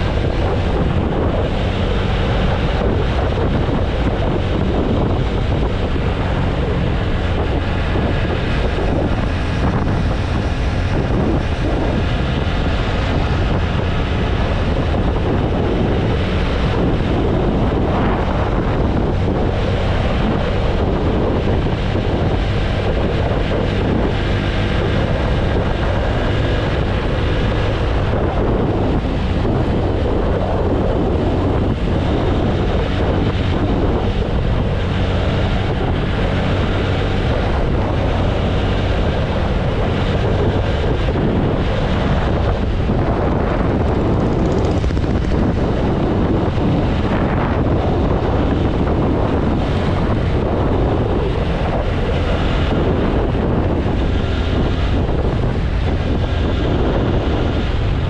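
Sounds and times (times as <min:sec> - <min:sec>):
motorcycle engine droning: 0:00.0 - 0:58.0
wind rushing over microphone: 0:00.0 - 0:58.0.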